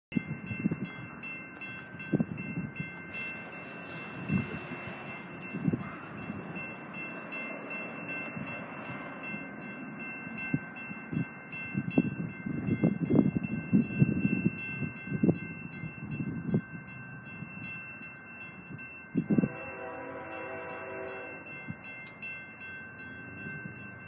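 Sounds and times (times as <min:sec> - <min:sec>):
crossing warning bell ringing: 0:00.1 - 0:24.0.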